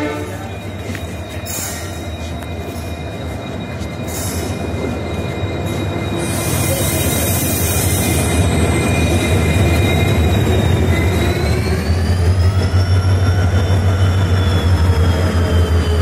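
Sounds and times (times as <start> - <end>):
high-pitched wheel squeal: 0.0 - 16.0
train rumbling past: 0.0 - 16.0.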